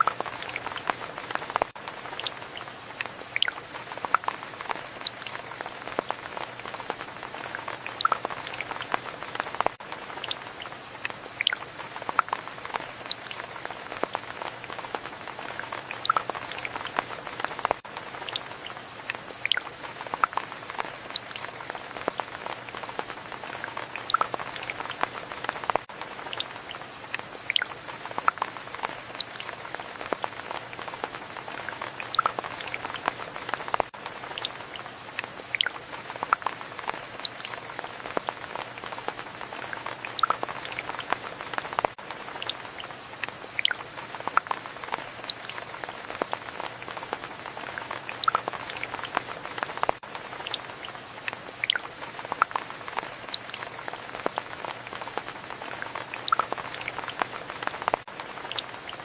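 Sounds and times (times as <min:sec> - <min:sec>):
rain drops ticking: 0:00.0 - 0:59.0.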